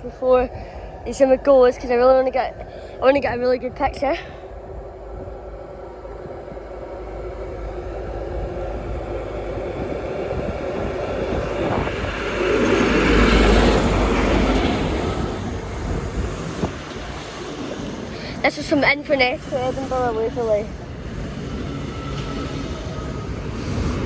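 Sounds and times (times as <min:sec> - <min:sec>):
diesel train rumbling past: 0:00.0 - 0:24.0.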